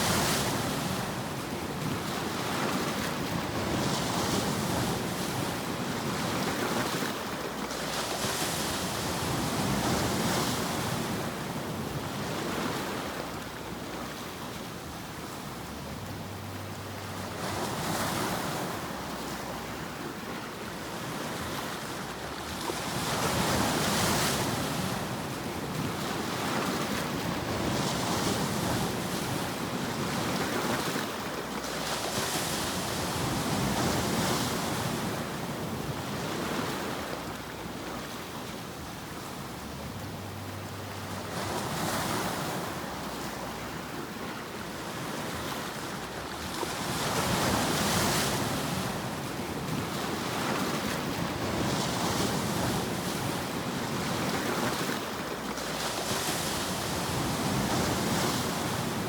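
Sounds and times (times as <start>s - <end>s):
ocean surf: 0.0s - 59.0s.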